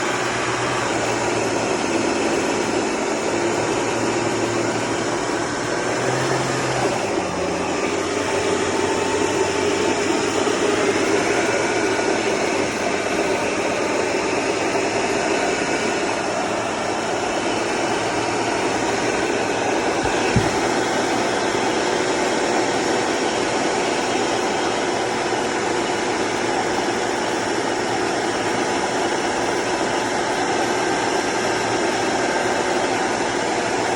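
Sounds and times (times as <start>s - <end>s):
grinding drone of transfer case: 0.0s - 33.9s.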